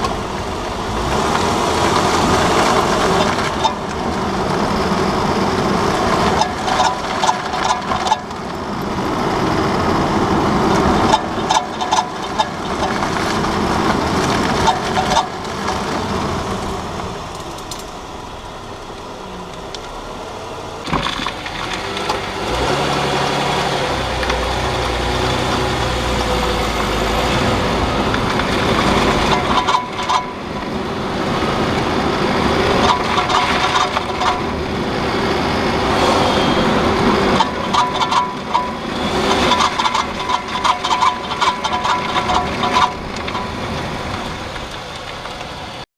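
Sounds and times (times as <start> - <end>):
wheel rattling and clicking: 0.0 - 20.0, 20.8 - 45.8
vehicle rumble: 0.0 - 45.9.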